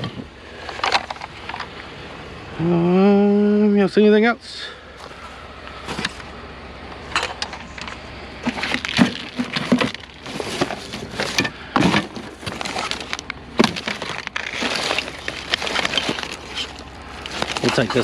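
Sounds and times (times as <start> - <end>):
rummaging through junk: 0.0 - 1.8, 4.9 - 18.0.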